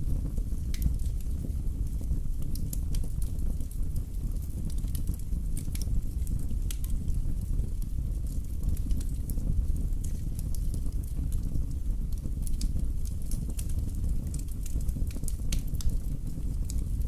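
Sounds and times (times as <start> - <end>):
flames rumbling: 0.0 - 17.0
logs crackling and popping: 0.0 - 17.0.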